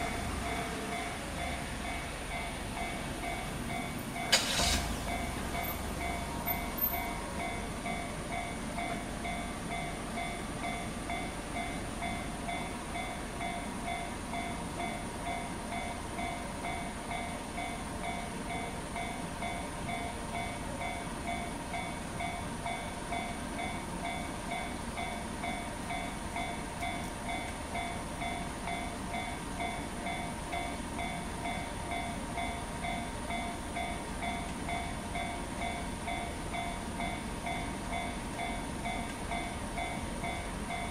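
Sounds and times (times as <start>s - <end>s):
freight train rumbling: 0.0s - 40.9s
level crossing warning bell: 0.0s - 40.9s.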